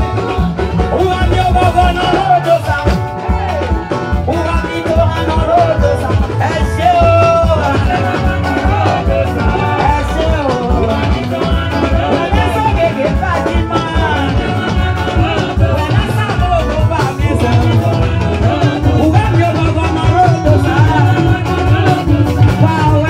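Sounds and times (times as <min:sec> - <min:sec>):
live band with bass-heavy beat: 0:00.0 - 0:23.0.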